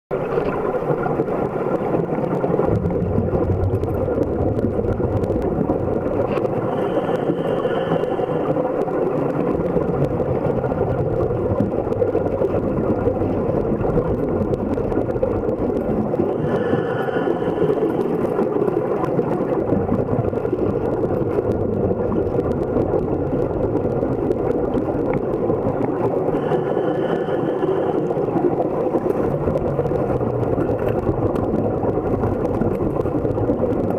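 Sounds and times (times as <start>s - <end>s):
muffled underwater rumble: 0.1s - 33.9s
air bubbles hissing: 0.2s - 33.9s.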